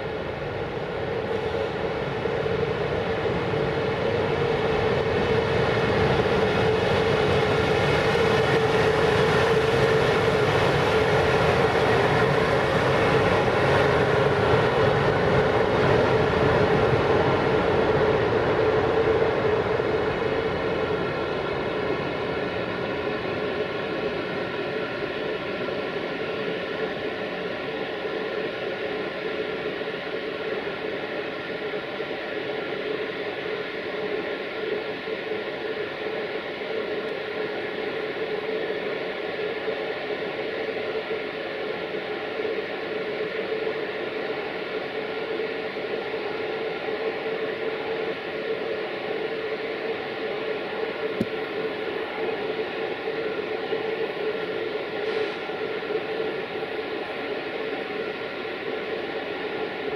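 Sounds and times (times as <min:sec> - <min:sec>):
locomotive equipment hissing and humming: 0:00.8 - 0:59.9.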